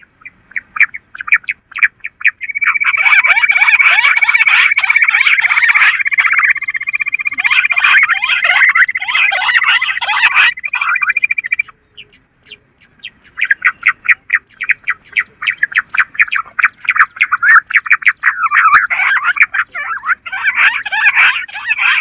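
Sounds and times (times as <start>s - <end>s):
quail chattering call: 0.0s - 22.0s.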